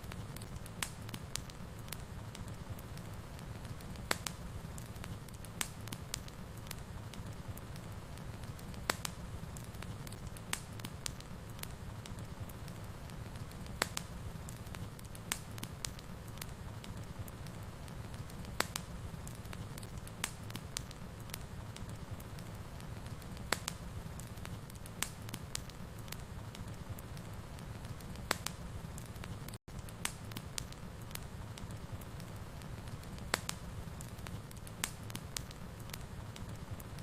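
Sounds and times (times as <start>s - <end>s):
fire crackling pops: 0.0s - 37.0s
fireplace fire rumbling: 0.0s - 37.0s.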